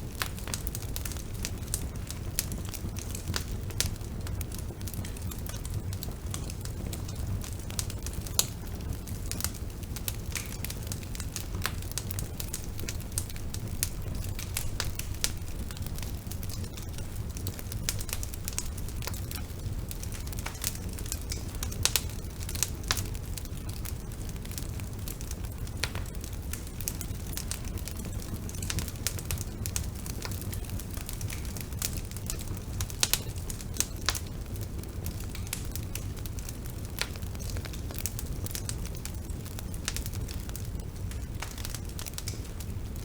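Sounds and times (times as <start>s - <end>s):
bonfire crackling and popping: 0.0s - 43.0s.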